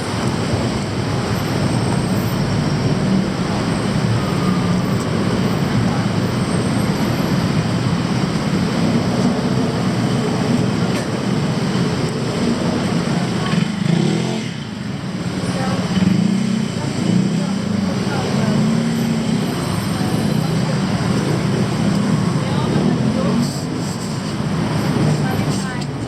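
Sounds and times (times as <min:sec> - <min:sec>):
low rumble of city noise: 0:00.0 - 0:26.0.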